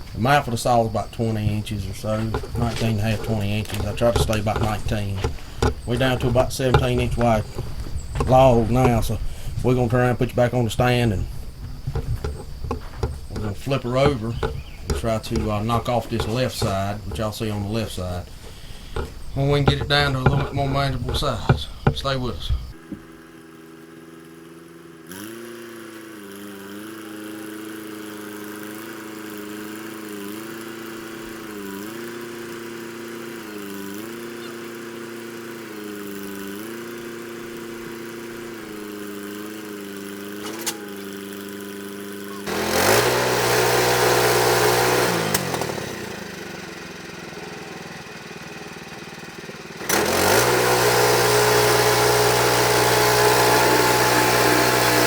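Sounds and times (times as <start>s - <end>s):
sawmill engine idling and revving: 0.0s - 55.0s.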